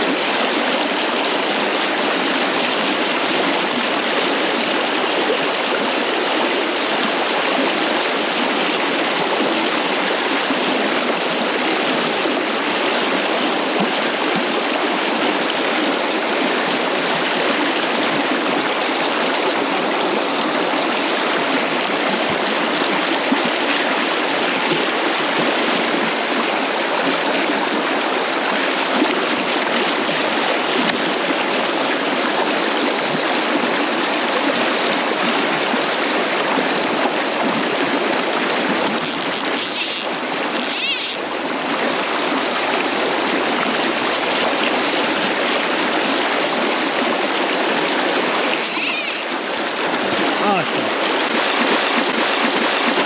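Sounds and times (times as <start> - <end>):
fast-flowing river rushing: 0.0 - 53.0.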